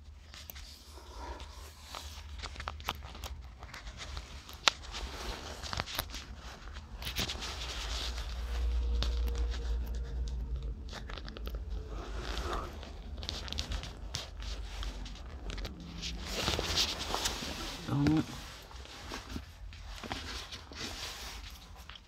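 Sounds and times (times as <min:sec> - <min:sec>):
small parts clicking and scraping: 0:00.0 - 0:22.0
steady low rumble: 0:00.0 - 0:22.0.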